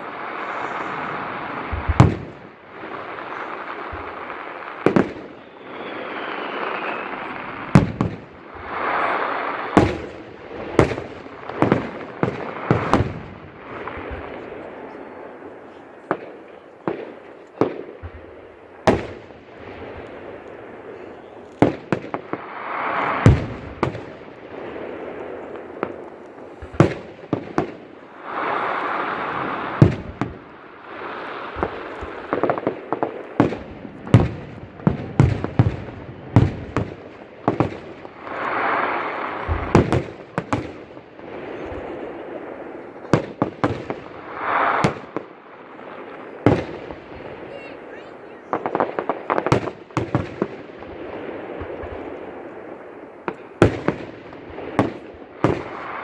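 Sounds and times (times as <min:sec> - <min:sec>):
fireworks bursting: 0:00.0 - 0:56.0
noisy firework swells: 0:00.0 - 0:56.0.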